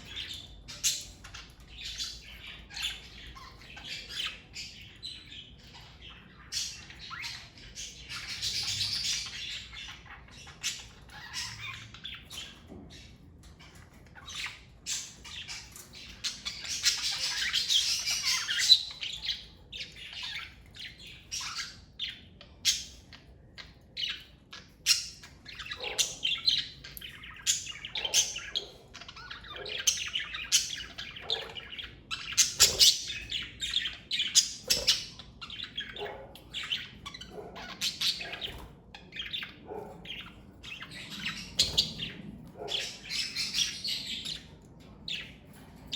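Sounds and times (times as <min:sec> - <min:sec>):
budgerigars chirping and chattering: 0:00.0 - 0:45.9.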